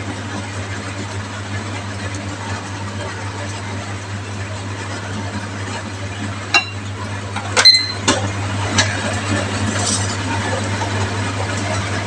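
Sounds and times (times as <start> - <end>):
oven humming: 0.0 - 12.0.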